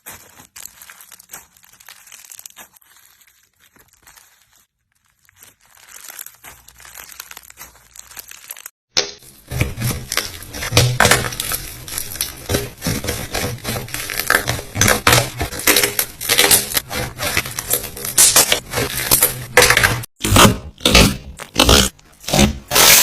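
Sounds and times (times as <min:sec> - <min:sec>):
slime crackling and popping: 0:00.0 - 0:20.1.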